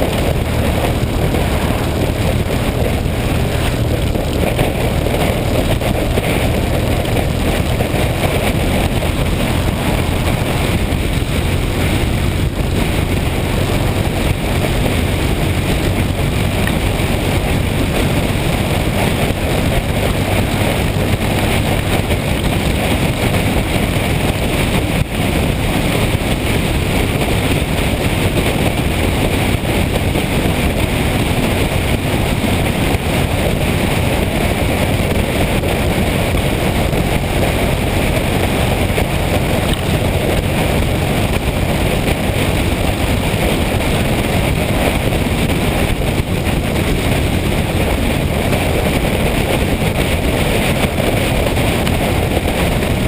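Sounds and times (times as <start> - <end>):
motorcycle engine and road noise: 0.0 - 53.0
wind rushing on microphone: 0.0 - 53.0.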